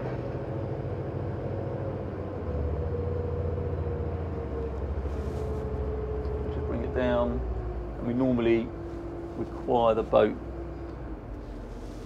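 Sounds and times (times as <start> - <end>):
diesel boat engines droning: 0.0 - 12.0.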